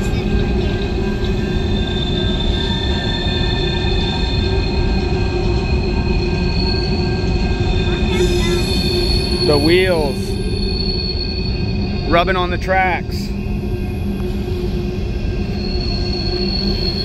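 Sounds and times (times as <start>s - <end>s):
low rumble of rolling train cars: 0.0s - 17.0s
train wheels squealing on rails: 0.0s - 17.0s.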